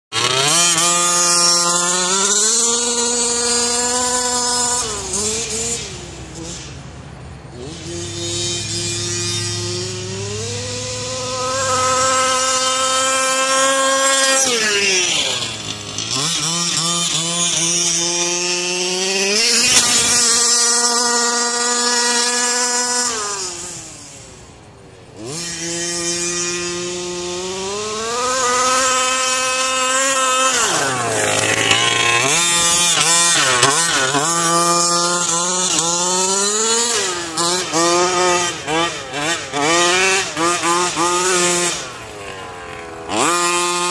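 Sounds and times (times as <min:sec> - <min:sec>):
small engine revving: 0:00.1 - 0:43.9.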